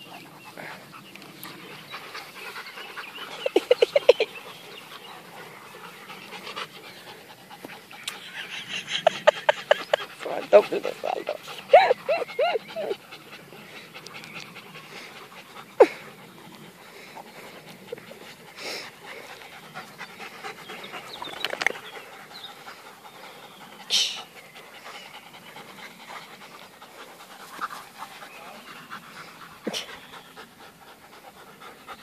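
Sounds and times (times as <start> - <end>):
dogs panting: 0.0 - 32.0.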